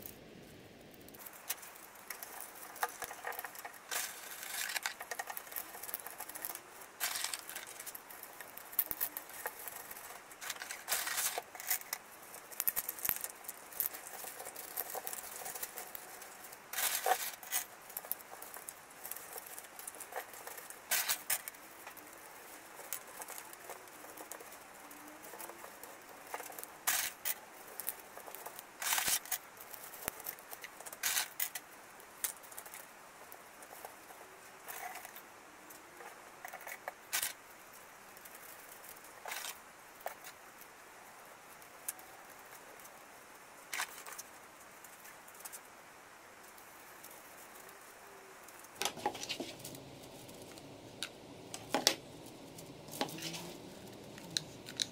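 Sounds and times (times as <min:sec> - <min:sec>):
bamboo skewers clicking and scraping: 0:00.0 - 0:54.9.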